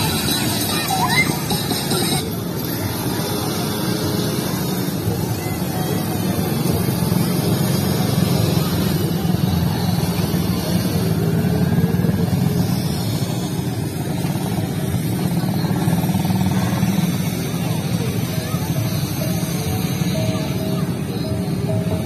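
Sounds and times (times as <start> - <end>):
quad bike engines droning: 0.0 - 22.0.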